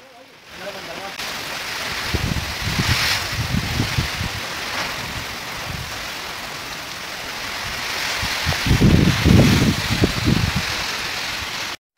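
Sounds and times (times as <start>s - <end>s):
heavy rain hissing: 0.0s - 11.8s
wind gusts buffeting microphone: 1.2s - 11.6s.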